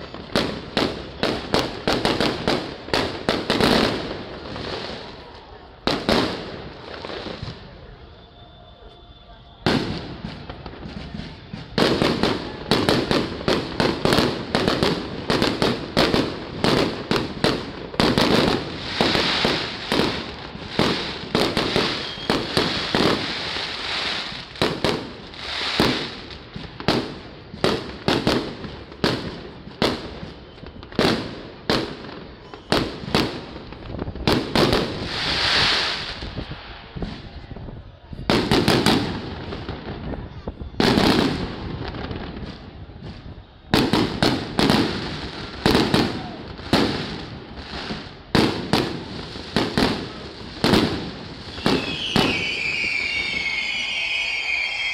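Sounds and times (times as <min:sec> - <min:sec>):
crackling hiss of fireworks: 0:00.0 - 0:54.9
fireworks bursting: 0:00.0 - 0:54.9.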